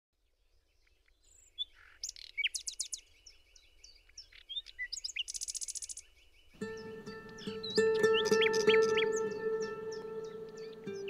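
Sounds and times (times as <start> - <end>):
songbirds chirping and singing: 0.4 - 11.0.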